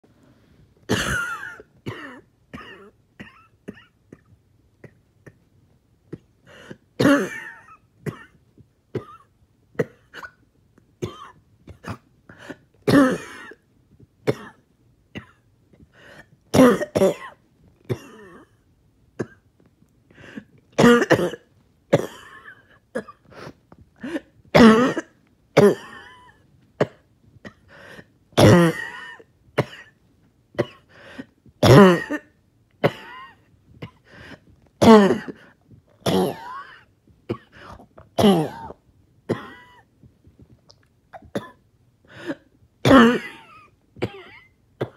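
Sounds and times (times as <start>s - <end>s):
person coughing harshly: 0.9s - 5.4s, 6.2s - 10.4s, 11.0s - 13.6s, 14.3s - 14.6s, 16.1s - 18.6s, 20.2s - 30.0s, 30.6s - 39.9s, 41.2s - 44.9s.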